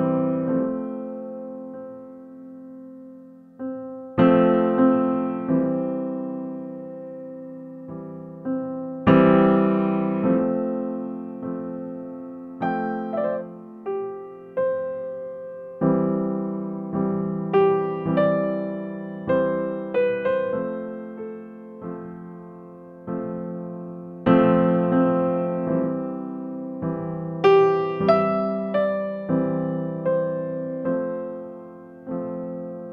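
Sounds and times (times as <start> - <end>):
slow piano music: 0.0 - 32.9.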